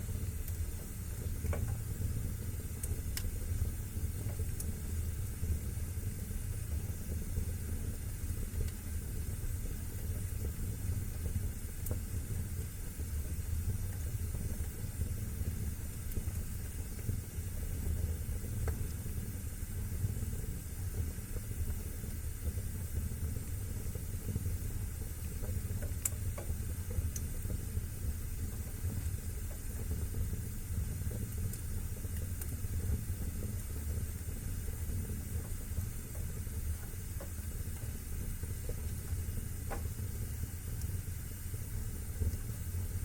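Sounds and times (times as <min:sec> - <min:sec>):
fire crackling: 0:00.0 - 0:43.0
fire flames rumbling: 0:00.0 - 0:43.0.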